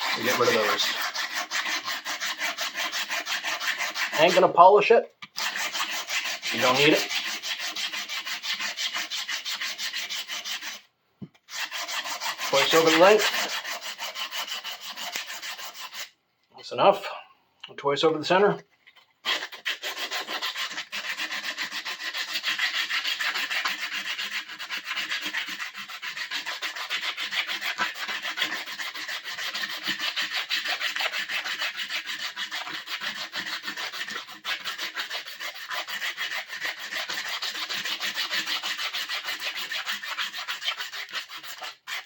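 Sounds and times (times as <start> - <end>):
sandpaper rubbing on wood: 0.0 - 4.8, 5.4 - 10.8, 11.5 - 16.1, 19.2 - 42.0.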